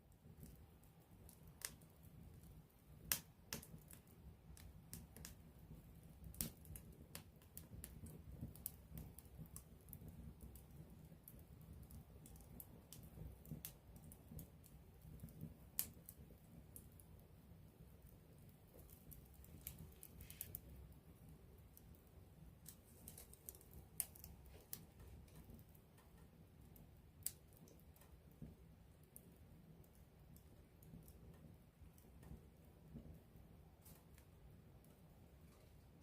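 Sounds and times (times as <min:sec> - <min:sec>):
campfire crackling and popping: 0:00.1 - 0:35.1.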